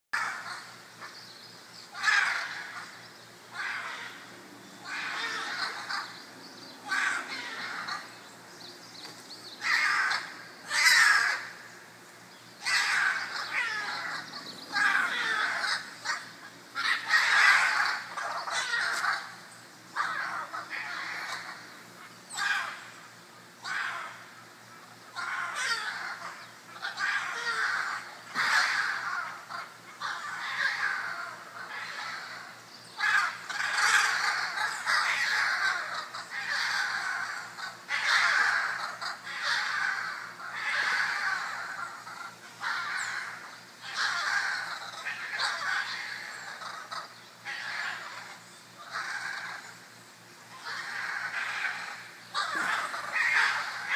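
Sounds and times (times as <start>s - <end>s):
macaws squawking: 0.2s - 53.9s.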